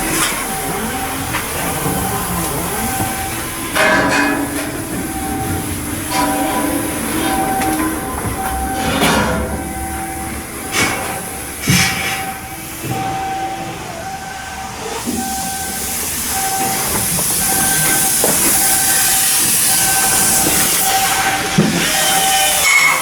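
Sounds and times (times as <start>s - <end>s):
electronic warning beeps: 0.0s - 23.0s
hiss: 0.0s - 23.0s.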